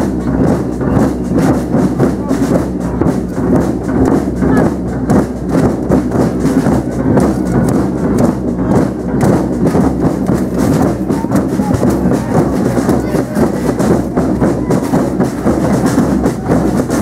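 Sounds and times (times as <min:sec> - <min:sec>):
crowd voices: 0:00.0 - 0:17.0
marching drum band: 0:00.0 - 0:17.0.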